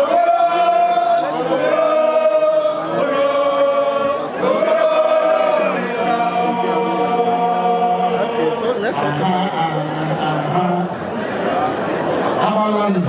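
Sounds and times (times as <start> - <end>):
voices chanting in long notes: 0.0 - 11.0.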